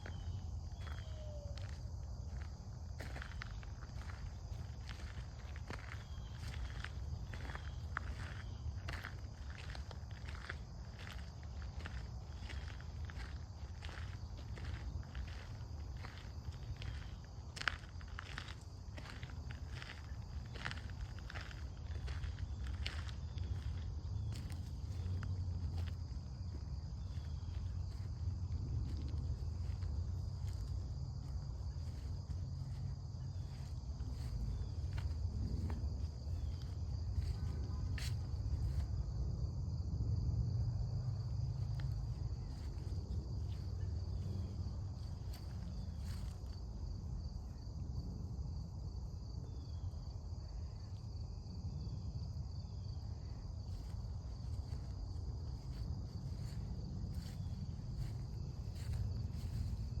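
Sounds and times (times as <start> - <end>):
crickets trilling: 0.0 - 60.0.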